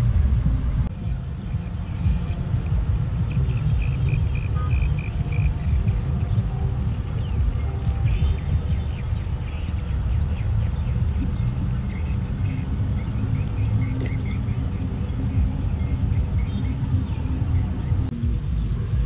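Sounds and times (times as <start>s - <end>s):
low rumble: 0.0s - 19.0s
small birds chirping: 0.0s - 19.0s.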